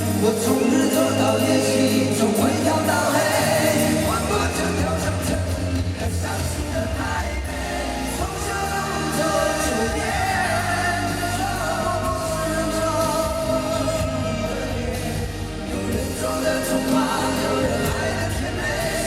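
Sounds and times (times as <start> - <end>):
live pop-rock band: 0.0 - 19.0.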